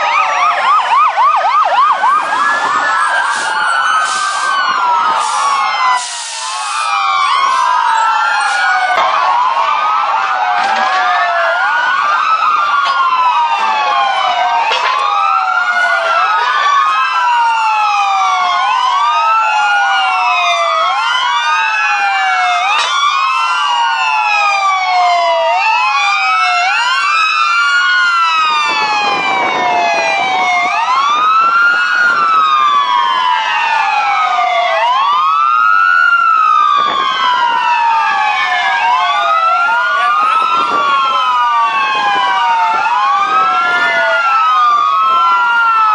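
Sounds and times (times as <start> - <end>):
fire truck sirens wailing: 0.0 - 45.9.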